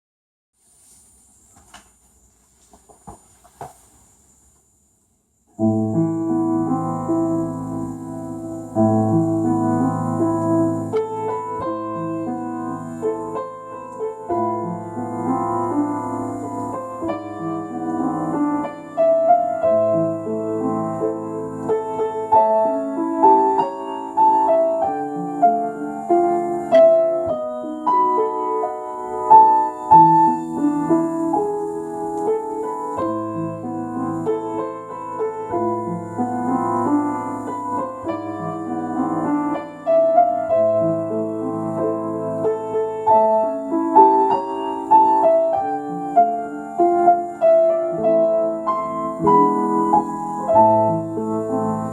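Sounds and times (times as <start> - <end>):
solo piano elegy: 5.5 - 51.9.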